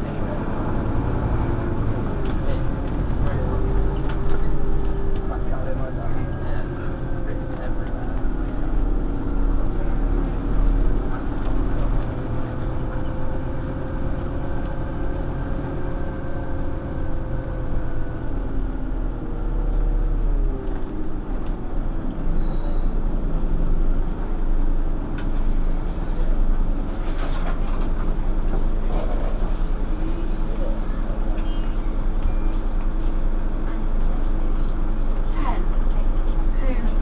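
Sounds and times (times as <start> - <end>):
bus engine rumble and whine: 0.0 - 37.0.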